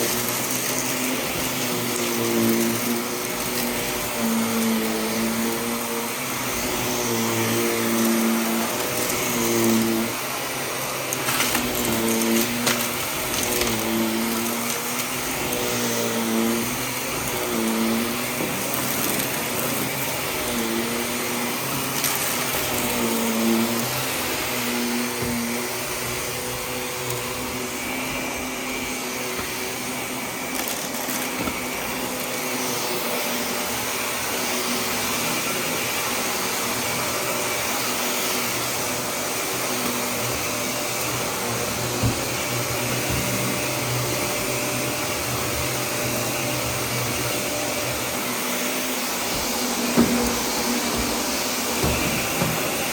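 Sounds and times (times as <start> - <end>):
vacuum cleaner on carpet: 0.0 - 52.9.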